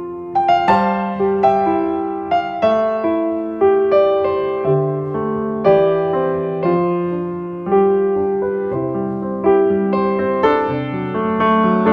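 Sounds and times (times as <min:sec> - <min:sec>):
slow gentle piano: 0:00.0 - 0:11.9.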